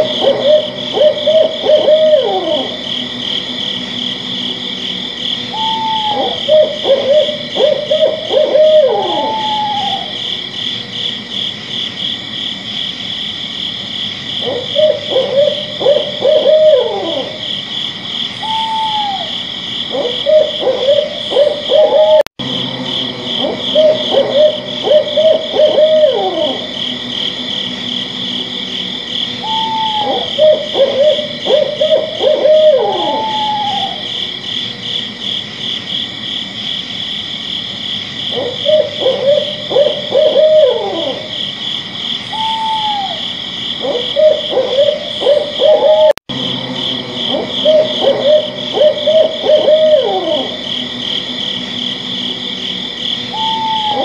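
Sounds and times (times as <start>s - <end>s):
owl hooting: 0.0s - 11.6s, 14.3s - 35.4s, 38.2s - 41.6s, 42.2s - 54.0s.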